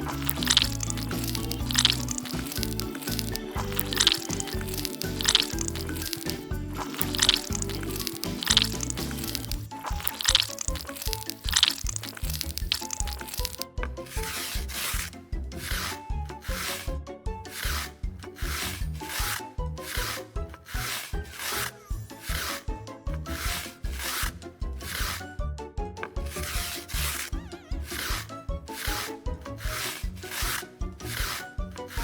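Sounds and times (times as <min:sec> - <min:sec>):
rhythmic rubbing strokes: 0:00.0 - 0:16.9, 0:17.5 - 0:22.7, 0:26.3 - 0:32.0
background music: 0:00.0 - 0:32.0.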